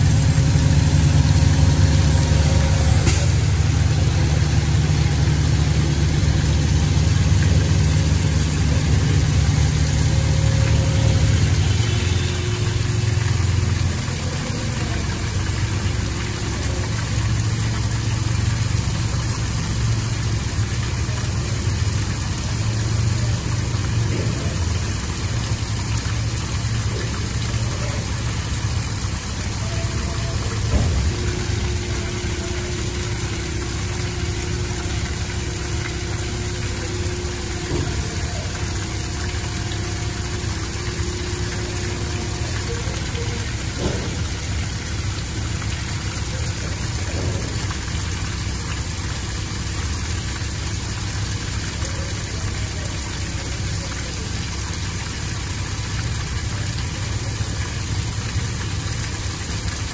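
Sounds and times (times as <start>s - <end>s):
diesel truck engine idling: 0.0s - 59.9s
liquid splashing onto pavement: 0.0s - 59.9s.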